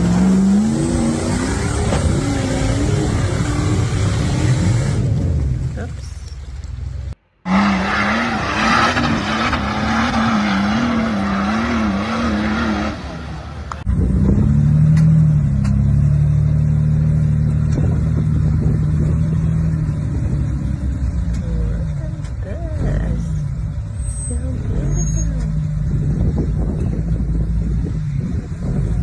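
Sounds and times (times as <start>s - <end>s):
engine revving hard: 0.0s - 5.7s, 7.4s - 29.0s.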